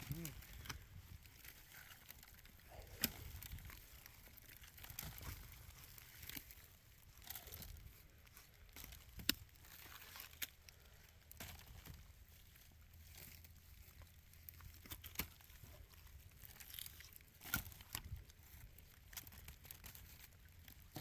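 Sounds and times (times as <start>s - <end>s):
wood and brush crunching: 0.0s - 21.0s.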